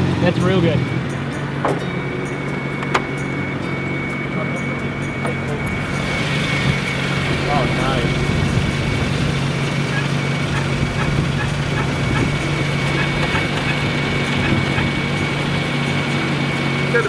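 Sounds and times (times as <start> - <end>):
car engine idling: 0.0 - 17.0
high-pitched whine: 0.0 - 17.0.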